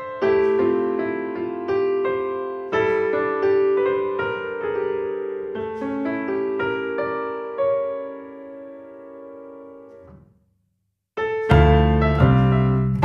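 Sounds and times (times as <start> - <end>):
piano music: 0.0 - 10.3, 11.2 - 13.0.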